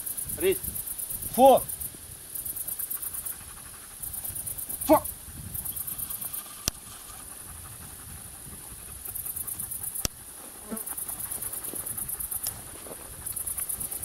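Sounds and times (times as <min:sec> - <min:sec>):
insects chirping in trills: 0:00.0 - 0:14.0.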